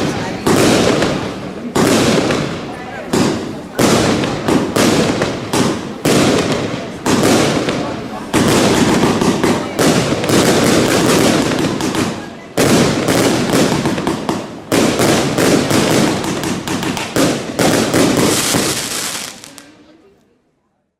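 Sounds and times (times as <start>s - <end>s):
fireworks crackling and banging: 0.0s - 20.3s.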